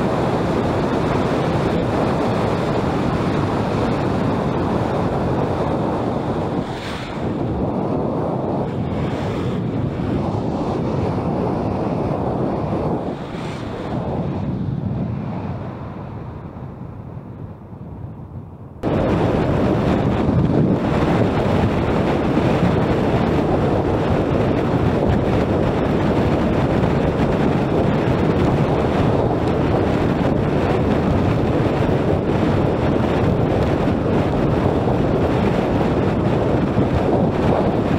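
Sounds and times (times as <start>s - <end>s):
road noise: 0.0s - 37.9s
wind buffeting microphone: 0.0s - 37.9s.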